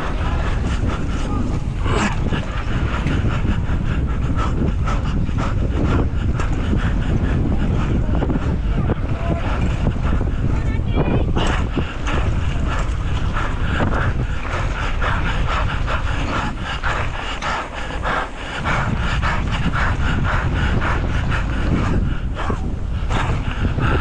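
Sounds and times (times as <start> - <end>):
person panting hard: 0.0 - 24.0
wind buffeting microphone: 0.0 - 24.0.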